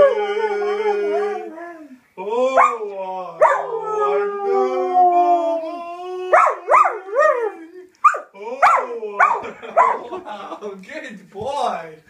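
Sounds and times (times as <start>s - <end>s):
dog howling: 0.0s - 10.0s.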